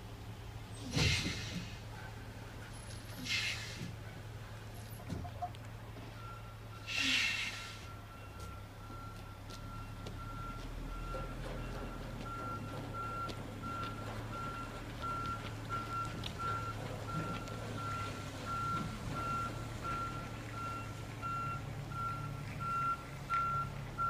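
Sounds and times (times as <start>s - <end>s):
low engine hum: 0.0s - 24.0s
truck backup alarm beeping: 4.4s - 24.0s.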